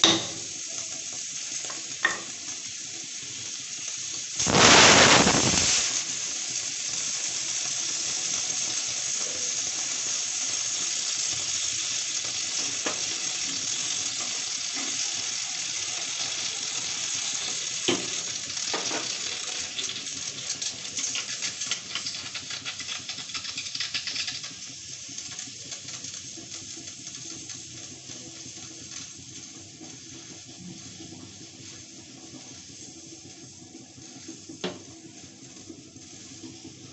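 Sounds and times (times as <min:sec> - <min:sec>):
pressure cooker steam hissing: 0:00.0 - 0:36.9.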